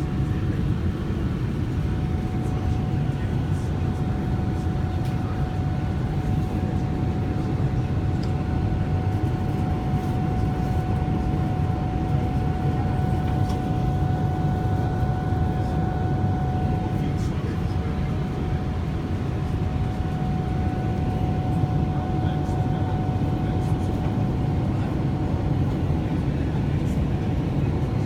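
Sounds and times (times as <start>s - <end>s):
constant high whine: 0.0s - 28.0s
jet engine rumble: 0.0s - 28.0s.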